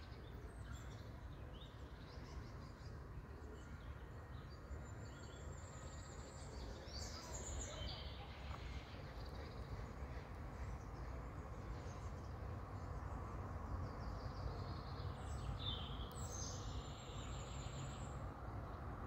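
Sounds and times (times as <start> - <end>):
distant songbirds chirping: 0.0 - 19.0.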